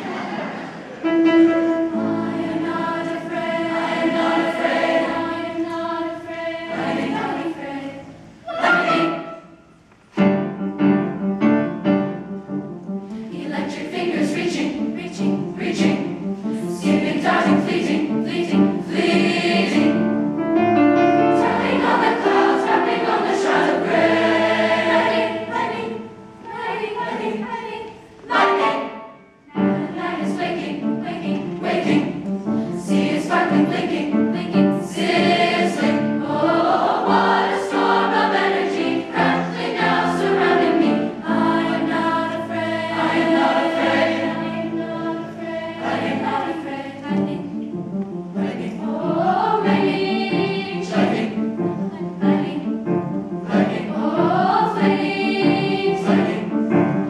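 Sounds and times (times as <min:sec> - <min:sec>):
choir singing: 0:00.0 - 0:09.7, 0:13.2 - 0:57.0.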